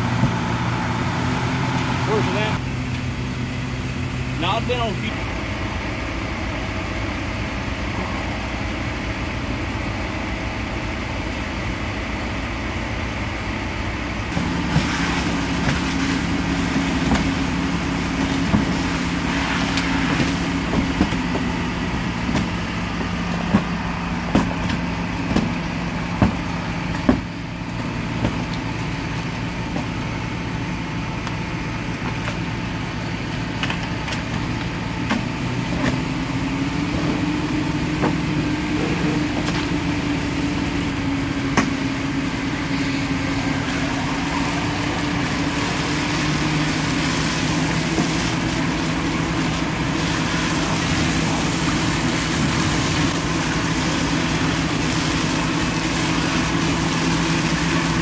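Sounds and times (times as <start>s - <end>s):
fire engine motor running: 0.0s - 58.0s.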